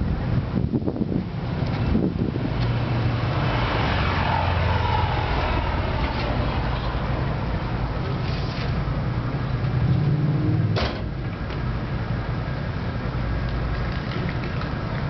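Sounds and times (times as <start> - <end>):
vehicle engine humming: 0.6 - 15.0.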